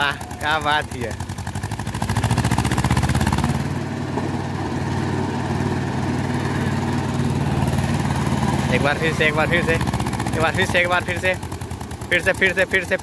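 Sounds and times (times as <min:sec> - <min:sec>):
tractor diesel engine labouring: 0:00.0 - 0:13.0.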